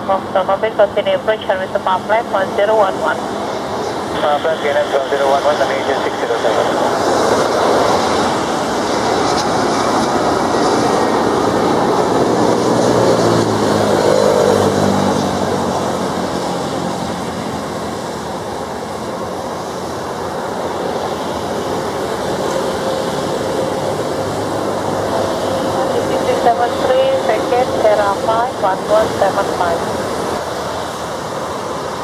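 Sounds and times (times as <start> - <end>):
jet airliner engines passing: 0.0 - 32.0.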